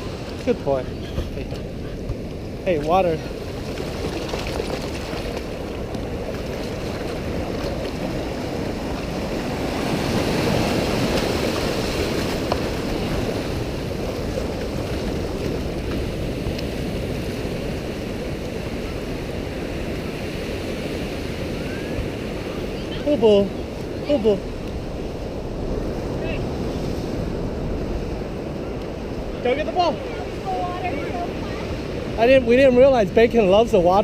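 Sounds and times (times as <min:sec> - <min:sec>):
wind on microphone: 0:00.0 - 0:33.1
ocean surf breaking: 0:00.0 - 0:34.0.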